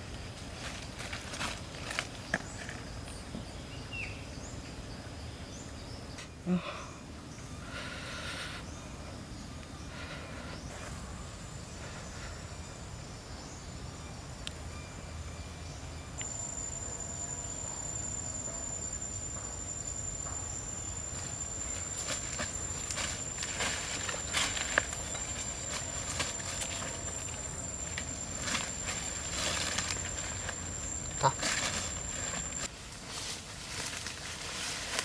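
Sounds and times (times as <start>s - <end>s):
insect high-pitched whine: 0.0s - 35.0s.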